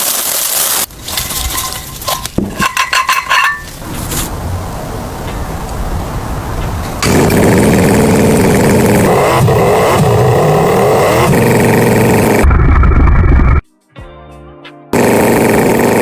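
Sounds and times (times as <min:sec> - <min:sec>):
engine running: 0:00.9 - 0:13.6, 0:15.0 - 0:16.0.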